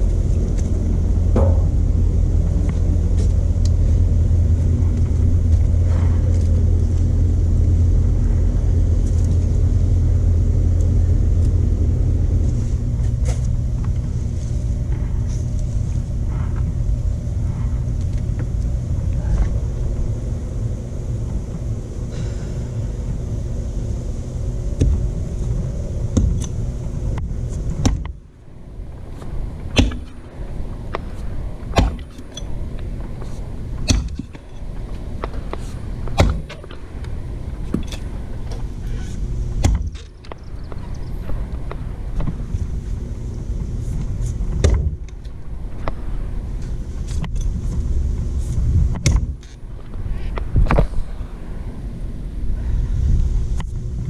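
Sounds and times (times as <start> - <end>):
engine running with low hum: 0.0 - 54.0.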